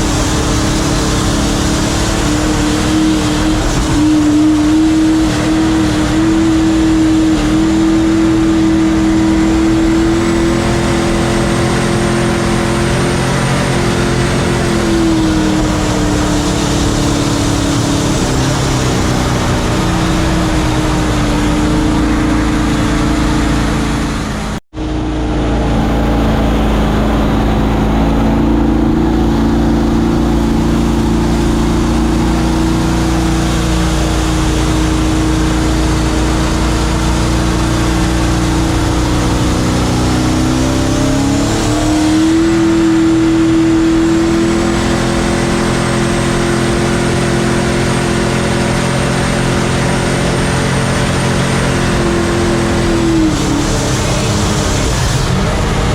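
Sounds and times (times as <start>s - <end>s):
boat engine running hard: 0.0s - 55.9s.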